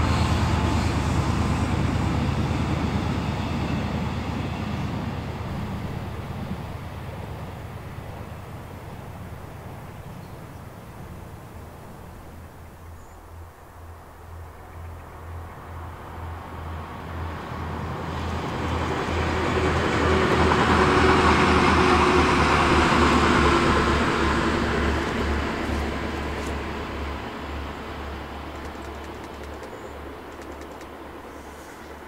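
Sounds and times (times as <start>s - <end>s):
diesel train passing at speed: 0.0s - 32.0s.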